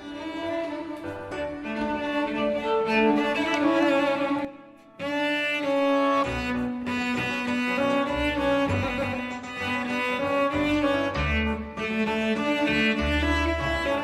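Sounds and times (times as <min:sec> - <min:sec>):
solo cello melody: 0:00.0 - 0:14.0.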